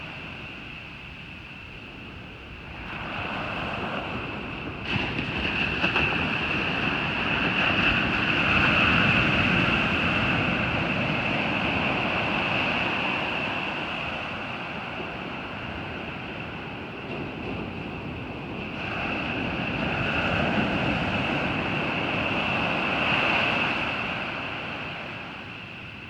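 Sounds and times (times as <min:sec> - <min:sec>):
ocean waves breaking on beach: 0:02.6 - 0:26.0.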